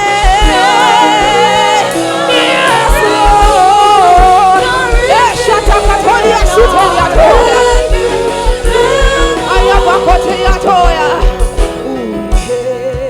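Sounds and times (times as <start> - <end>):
band with kick-drum beat: 0.0 - 13.0
voices singing wordless melody: 0.0 - 13.0.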